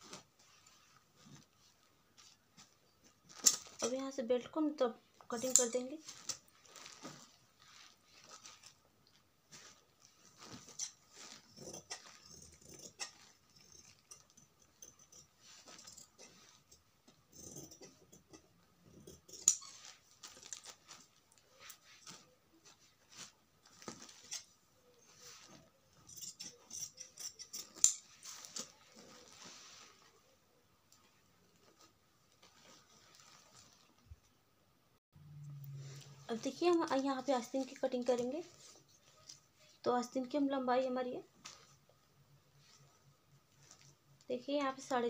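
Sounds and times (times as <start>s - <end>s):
cloth rustling: 0.0s - 4.2s, 5.2s - 34.4s, 35.8s - 39.9s, 41.3s - 45.0s.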